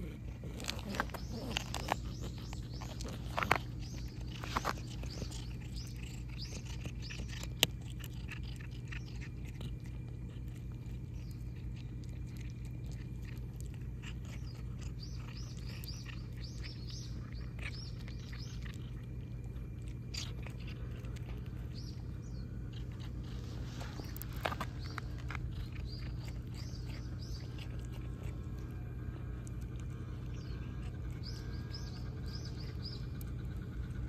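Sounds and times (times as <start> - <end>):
cat crunching dry kibble: 0.0 - 34.0
cat licking: 0.0 - 34.0.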